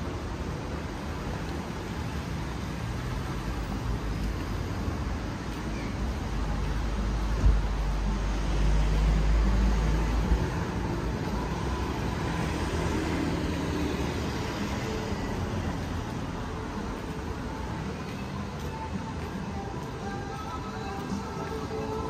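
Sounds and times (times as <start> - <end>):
street traffic passing: 0.0 - 22.0.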